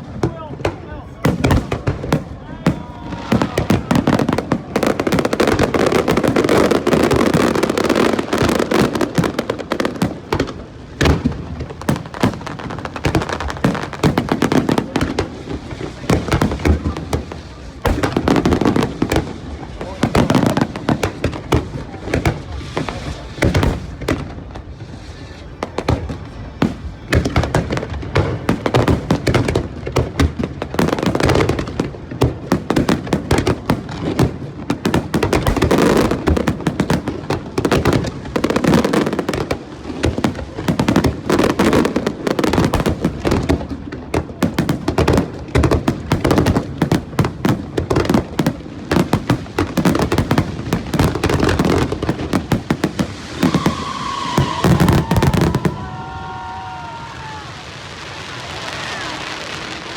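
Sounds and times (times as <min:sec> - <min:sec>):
fireworks bursts and crackling bangs: 0:00.0 - 0:59.9.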